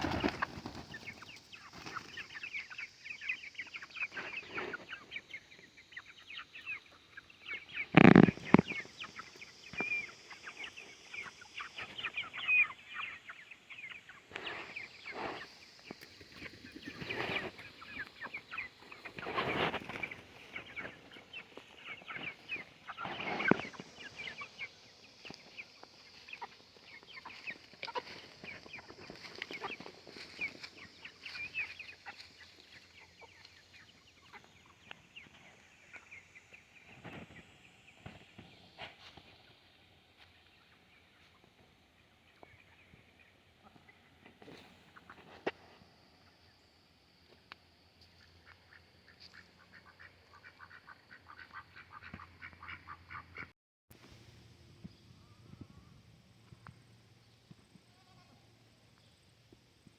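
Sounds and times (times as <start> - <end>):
chickens clucking and chirping: 0.0 - 53.5.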